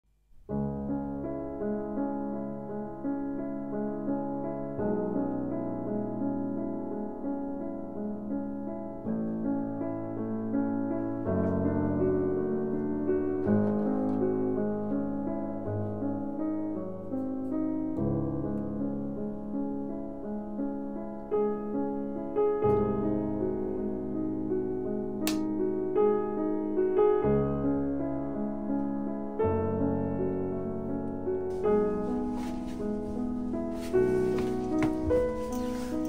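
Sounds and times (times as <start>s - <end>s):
piano music: 0.5s - 36.0s.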